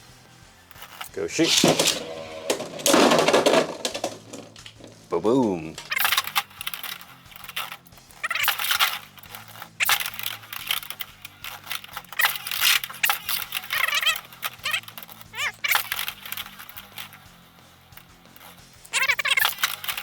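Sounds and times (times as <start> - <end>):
plastic spinning tops clashing: 0.6 - 20.0
spinning tops grinding whine: 0.8 - 20.0.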